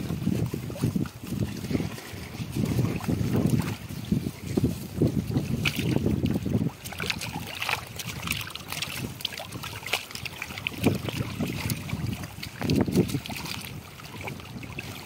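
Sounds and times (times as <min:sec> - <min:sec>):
water splashes and drips: 0:00.0 - 0:15.0
wind buffeting microphone: 0:00.0 - 0:15.0.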